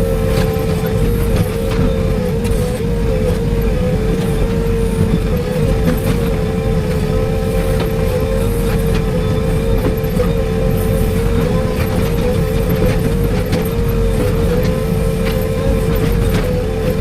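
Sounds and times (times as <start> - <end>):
excavator diesel engine running: 0.0 - 17.0
wavering whine: 0.0 - 17.0.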